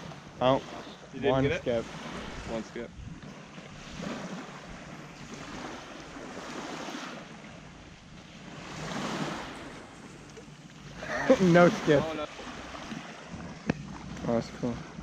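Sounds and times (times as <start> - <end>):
small waves washing ashore: 0.0 - 15.0
wind buffeting microphone: 0.0 - 15.0.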